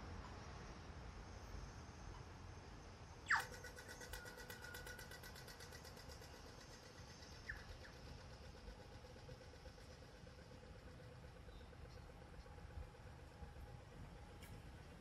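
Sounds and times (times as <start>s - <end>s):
faint low outdoor rumble: 0.0s - 15.0s.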